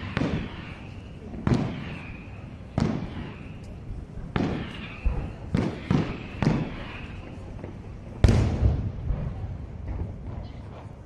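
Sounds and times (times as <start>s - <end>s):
distant fireworks bangs: 0.0s - 11.0s.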